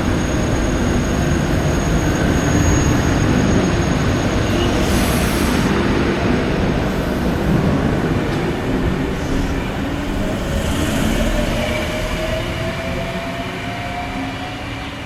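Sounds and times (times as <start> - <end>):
train whine rising in pitch: 0.0 - 8.2, 9.5 - 15.0
electric train rumble and wheel noise: 0.0 - 15.0.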